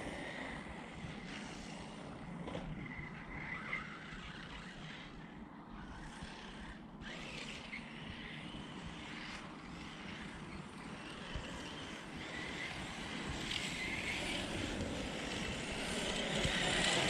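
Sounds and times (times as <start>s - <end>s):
electric motor whine: 0.0s - 17.0s
steady outdoor hiss: 0.0s - 17.0s.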